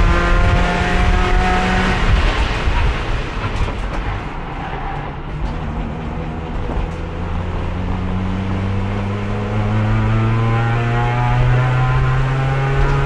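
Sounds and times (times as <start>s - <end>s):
race car engine: 0.0s - 13.0s
wind and road noise: 0.0s - 13.0s.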